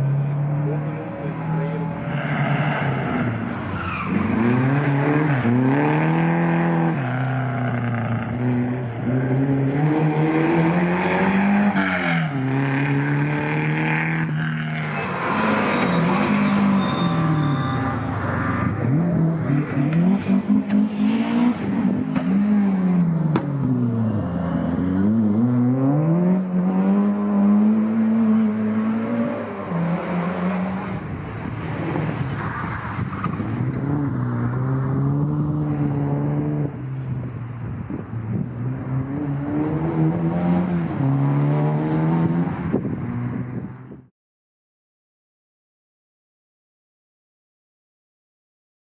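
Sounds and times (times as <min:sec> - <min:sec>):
rally car engines revving: 0:00.0 - 0:43.7.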